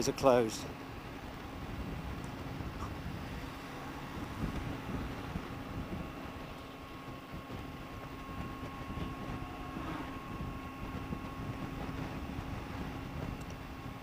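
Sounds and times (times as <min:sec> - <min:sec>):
wind rumble: 0:00.0 - 0:14.0
motorcycle engine cruising: 0:00.5 - 0:14.0.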